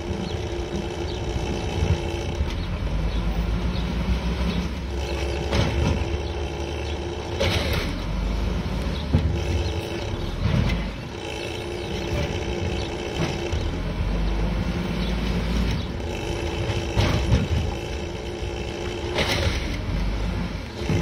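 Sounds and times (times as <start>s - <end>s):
constant whine: 0.0s - 21.0s
diesel engine running: 0.0s - 21.0s
loader clanking and knocking: 0.0s - 21.0s.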